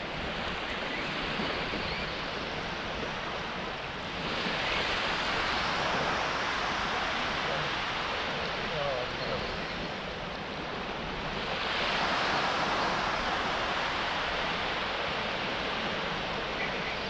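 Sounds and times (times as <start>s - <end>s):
small waves breaking on shore: 0.0s - 17.0s.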